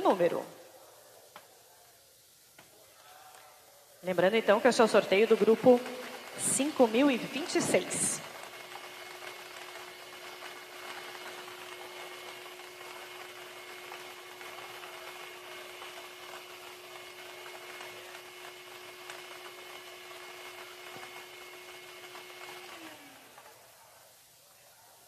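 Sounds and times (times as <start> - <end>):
blower humming and hissing: 0.0 - 25.0.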